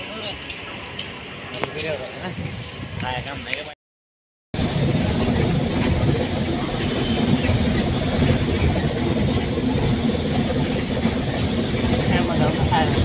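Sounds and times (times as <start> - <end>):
bus engine and road rumble: 0.0 - 3.8, 4.6 - 13.0.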